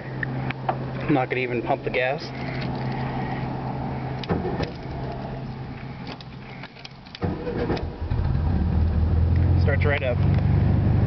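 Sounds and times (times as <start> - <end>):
car engine starting and rumbling: 0.0 - 11.0
steady low hum: 0.0 - 11.0.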